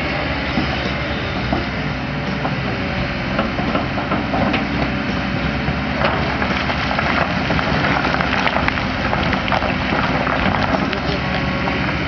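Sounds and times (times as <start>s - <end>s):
diesel engine running: 0.0s - 12.0s
metallic clanks and rattles: 1.4s - 11.4s.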